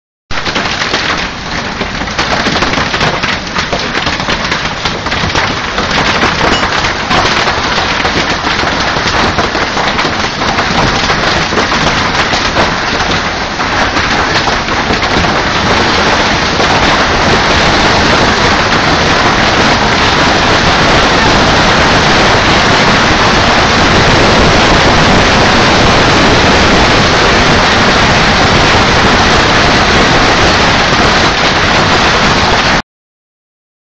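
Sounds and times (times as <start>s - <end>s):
heavy rain pouring: 0.3s - 32.8s.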